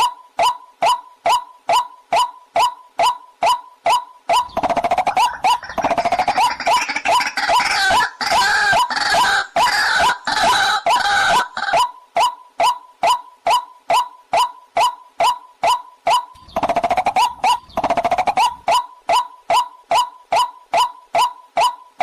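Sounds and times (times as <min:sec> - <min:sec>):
chorus of croaking calls: 0:00.0 - 0:22.0.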